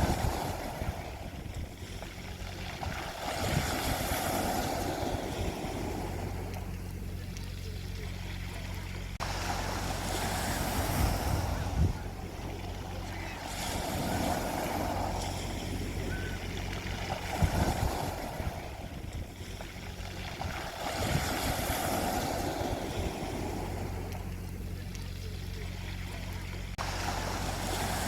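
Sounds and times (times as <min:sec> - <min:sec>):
sea waves breaking on beach: 0:00.0 - 0:28.0.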